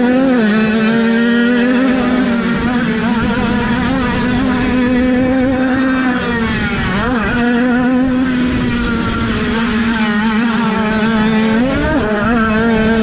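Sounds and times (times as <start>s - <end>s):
passing engine note: 0.0s - 13.0s
small motorcycle engines revving high: 0.0s - 13.0s.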